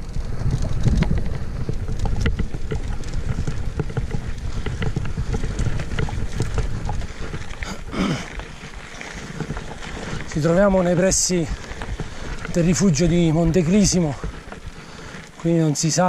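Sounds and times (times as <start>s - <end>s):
wind buffeting microphone: 0.0s - 15.7s
bike clicks and rattles: 0.0s - 16.0s
bike tyres crunching on dirt: 0.0s - 16.0s.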